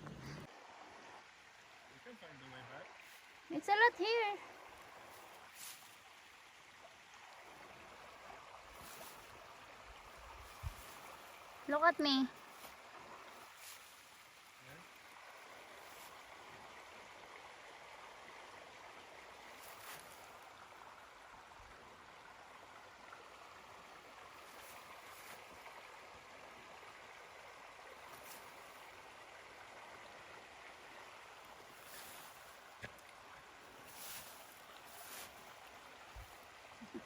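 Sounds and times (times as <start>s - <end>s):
faint outdoor hiss: 0.0s - 37.0s.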